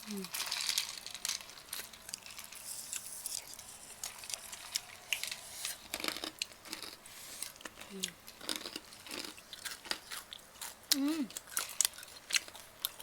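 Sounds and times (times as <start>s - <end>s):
person chewing food: 1.4s - 13.0s.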